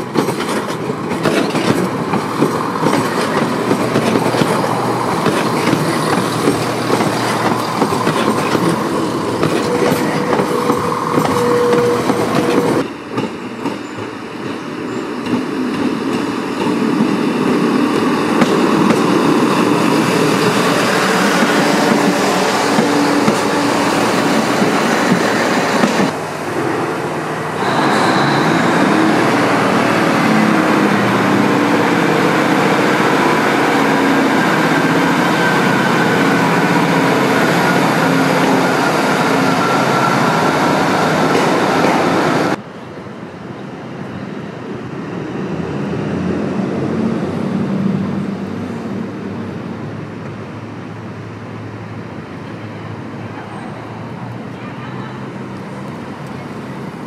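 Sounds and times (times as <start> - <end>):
diesel train engine accelerating: 0.0 - 13.4, 15.5 - 54.5
diesel trains running: 0.0 - 57.0.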